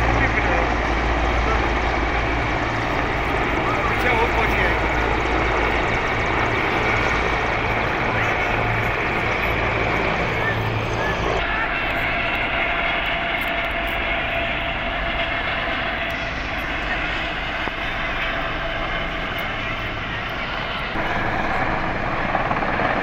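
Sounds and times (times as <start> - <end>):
helicopter engine and rotor noise: 0.0 - 23.0.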